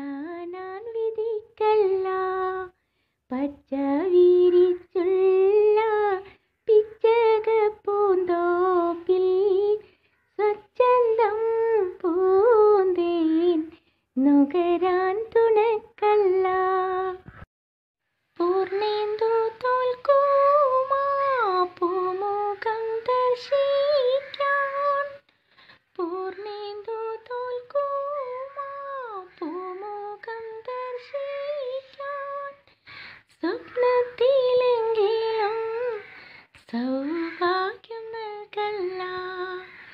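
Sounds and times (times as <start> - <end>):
person singing unaccompanied: 0.0 - 17.4, 18.3 - 39.9.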